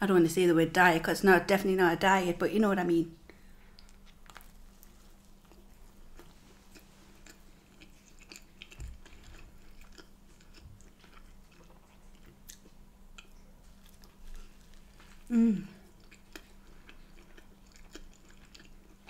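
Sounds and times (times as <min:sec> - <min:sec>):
faint low hum: 0:00.0 - 0:19.0
chewing and biting bread: 0:03.7 - 0:19.0.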